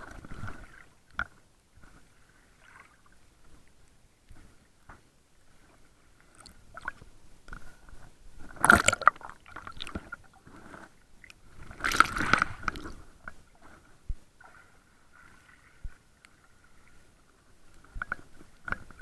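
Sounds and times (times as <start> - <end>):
water swishing and gurgling: 0.0 - 19.0.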